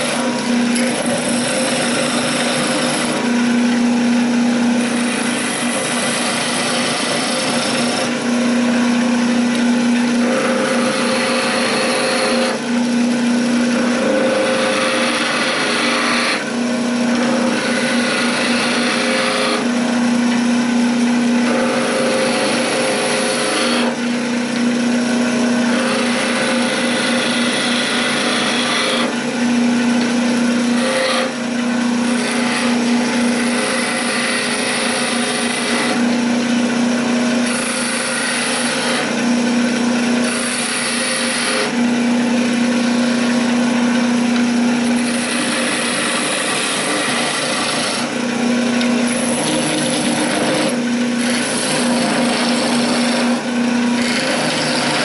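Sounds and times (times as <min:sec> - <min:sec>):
chisel shaving spinning wood: 0:00.0 - 0:55.0
wood lathe humming: 0:00.0 - 0:55.0.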